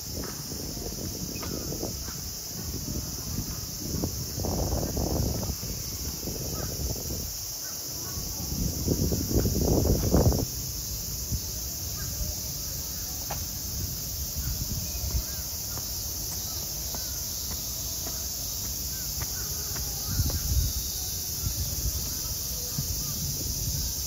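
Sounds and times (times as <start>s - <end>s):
cicada chorus drone: 0.0s - 24.0s.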